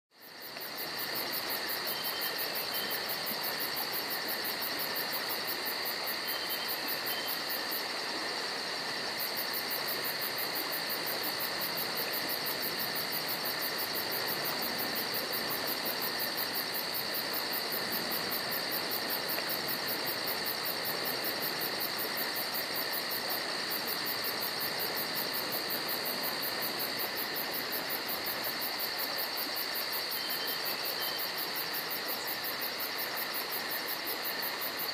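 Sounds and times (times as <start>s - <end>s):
crickets and night insects chirping: 0.1s - 34.9s.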